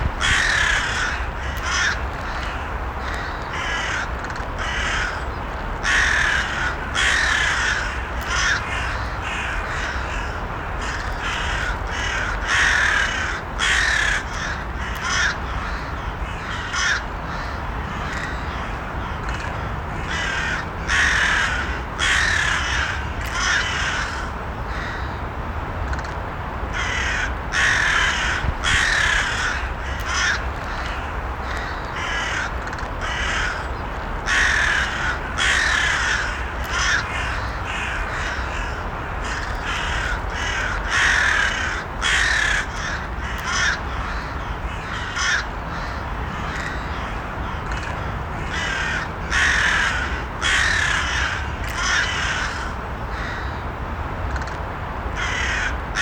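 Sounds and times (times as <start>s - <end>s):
low background noise: 0.0s - 56.0s
crows cawing: 0.2s - 25.2s, 26.7s - 53.6s, 55.2s - 56.0s.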